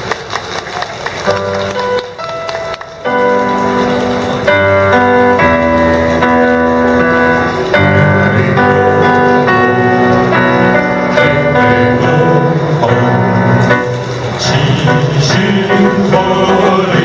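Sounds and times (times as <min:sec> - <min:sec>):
electronic keyboard chords: 0:01.2 - 0:17.0.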